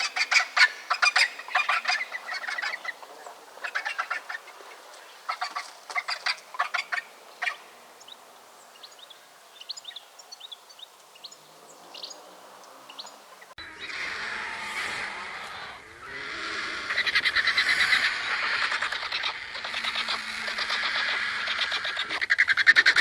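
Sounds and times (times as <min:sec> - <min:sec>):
vultures cackling: 0:00.0 - 0:08.4, 0:12.0 - 0:23.0
small birds chirping: 0:00.0 - 0:14.0, 0:17.0 - 0:23.0.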